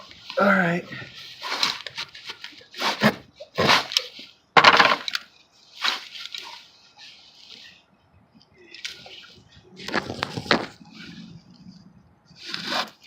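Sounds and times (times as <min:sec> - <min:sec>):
scraping and rustling handling noise: 0:00.0 - 0:13.0.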